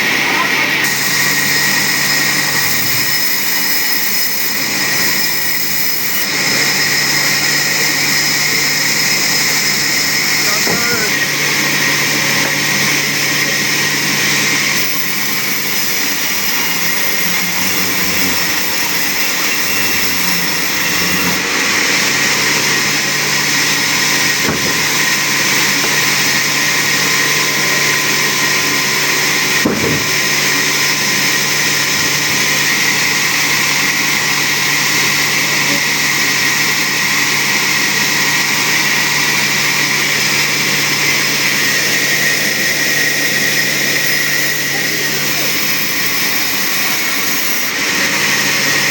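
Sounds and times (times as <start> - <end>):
wood-cutting machine motor running: 0.0 - 48.9.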